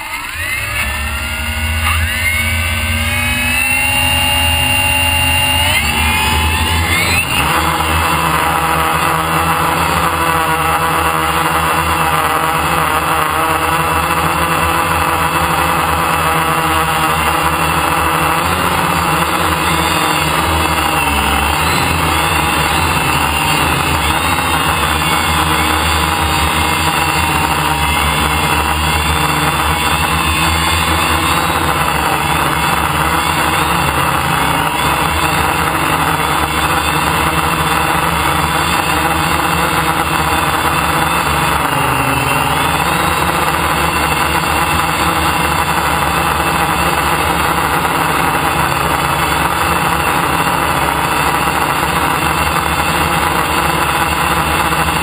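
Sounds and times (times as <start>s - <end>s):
drone motors buzzing whine: 0.0s - 55.0s.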